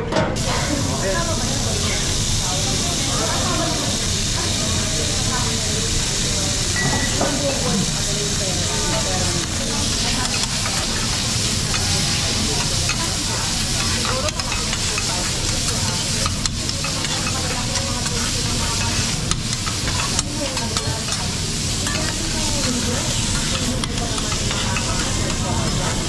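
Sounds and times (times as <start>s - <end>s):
food sizzling on a griddle: 0.4s - 26.0s.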